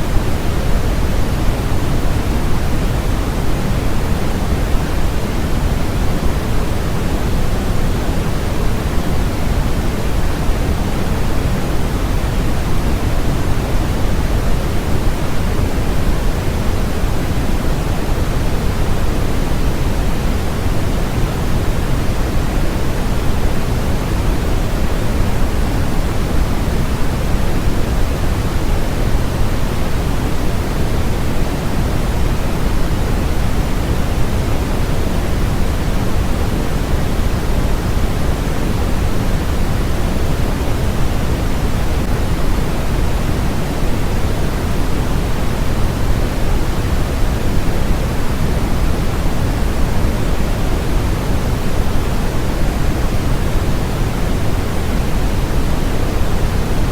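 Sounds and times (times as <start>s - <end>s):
white noise hiss: 0.0s - 56.9s.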